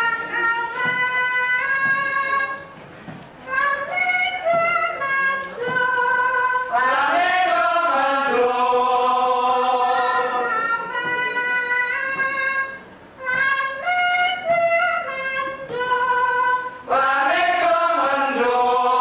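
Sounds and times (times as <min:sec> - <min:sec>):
voices singing together: 0:00.0 - 0:02.8, 0:03.5 - 0:19.0.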